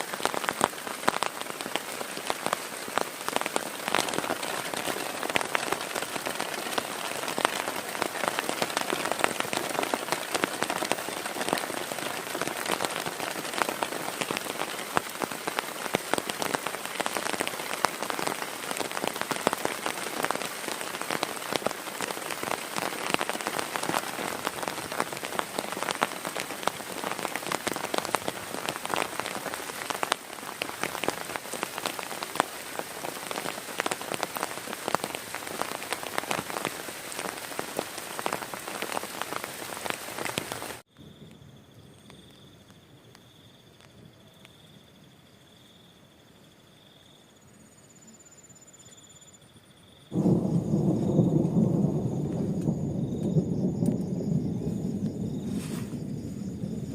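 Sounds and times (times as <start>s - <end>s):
heavy rain falling: 0.0s - 40.9s, 50.1s - 56.9s.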